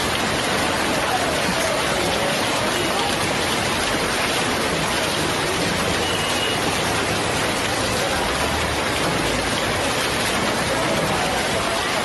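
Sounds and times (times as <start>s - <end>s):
heavy rain and hail: 0.0s - 12.0s.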